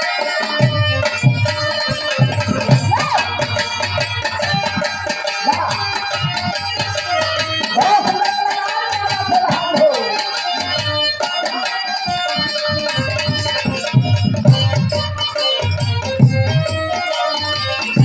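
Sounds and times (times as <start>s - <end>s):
hand drum beating fast rhythm: 0.0s - 18.0s.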